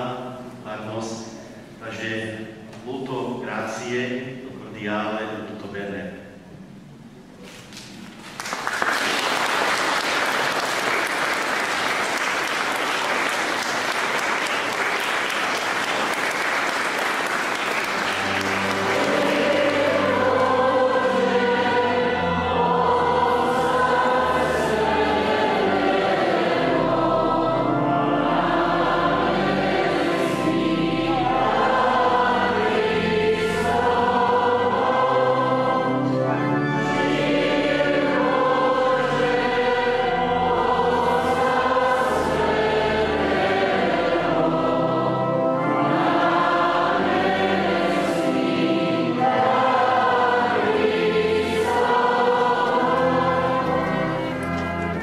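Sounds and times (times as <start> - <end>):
choir singing a slow hymn: 9.7 - 55.0
low accompaniment: 10.0 - 55.0.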